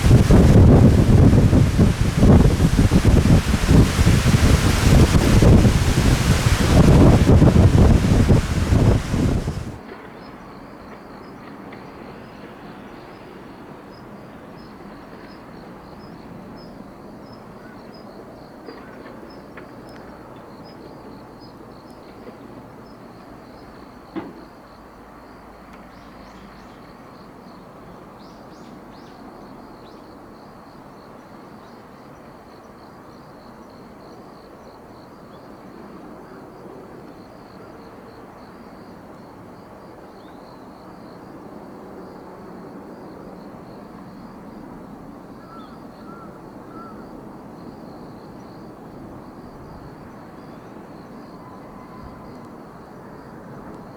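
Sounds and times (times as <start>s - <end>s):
outdoor background noise: 0.0s - 53.9s.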